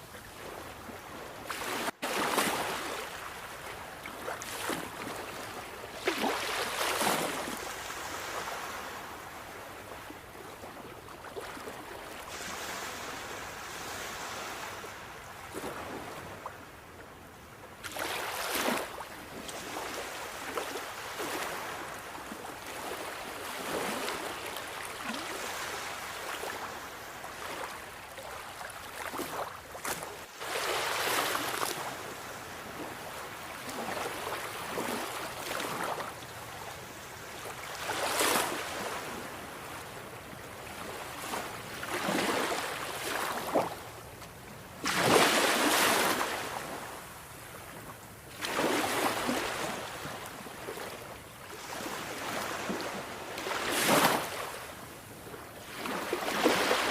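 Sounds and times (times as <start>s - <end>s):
sea waves breaking: 1.4s - 10.2s, 11.4s - 16.3s, 17.8s - 36.2s, 36.9s - 39.8s, 40.7s - 43.9s, 44.8s - 47.5s, 48.3s - 54.8s, 55.6s - 56.9s.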